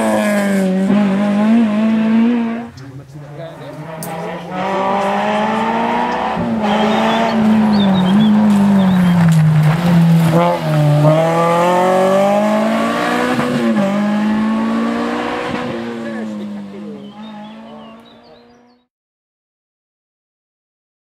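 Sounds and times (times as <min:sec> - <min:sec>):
rally car engine driven hard: 0:00.0 - 0:18.9.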